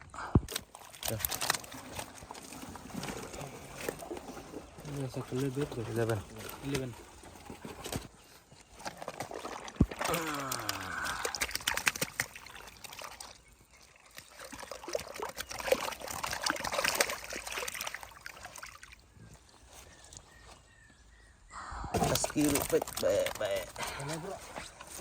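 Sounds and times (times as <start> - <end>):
water splashing and sloshing: 0.0 - 21.3, 22.0 - 25.0.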